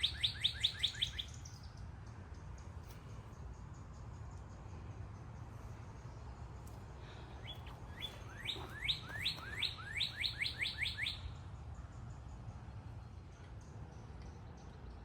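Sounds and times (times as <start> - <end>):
songbird singing rising notes: 0.0 - 15.0.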